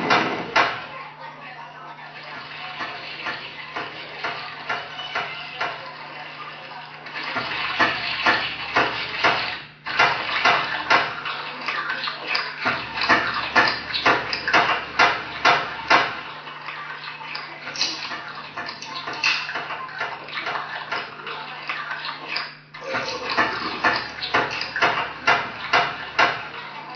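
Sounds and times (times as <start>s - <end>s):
dishes clattering: 0.0s - 1.0s, 2.2s - 26.9s
water splashing: 2.0s - 26.9s.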